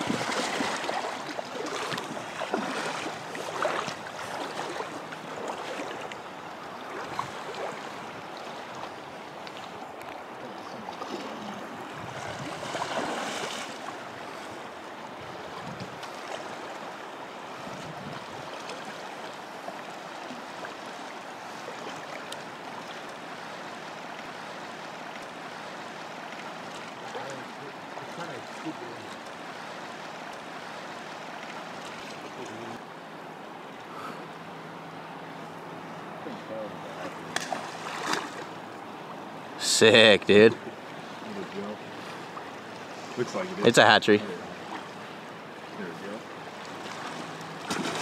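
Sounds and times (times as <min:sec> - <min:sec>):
flowing river water: 0:00.0 - 0:48.0.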